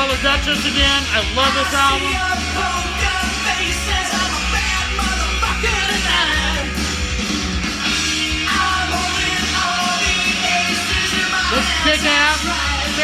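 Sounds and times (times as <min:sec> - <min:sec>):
rock song from vinyl record: 0:00.0 - 0:13.0.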